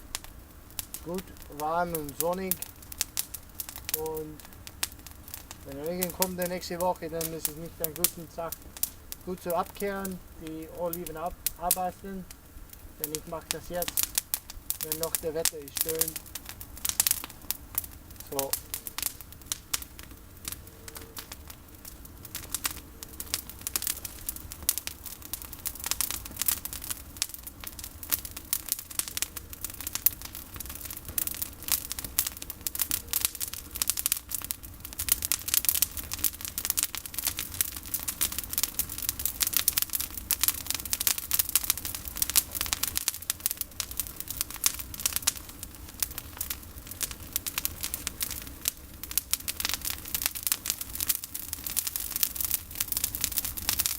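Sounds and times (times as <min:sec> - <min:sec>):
bonfire crackling and popping: 0:00.0 - 0:53.9.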